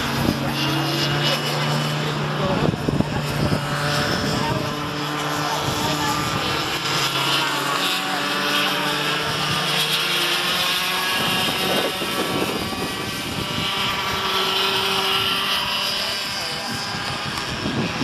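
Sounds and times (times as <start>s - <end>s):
kart passing close: 0.0s - 18.0s
racing kart engines at high revs: 0.0s - 18.0s.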